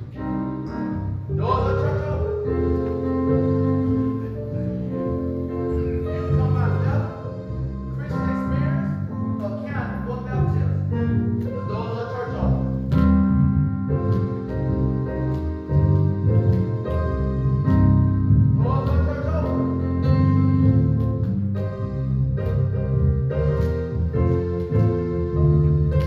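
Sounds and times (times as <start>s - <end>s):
piano playing chords: 0.0s - 26.0s.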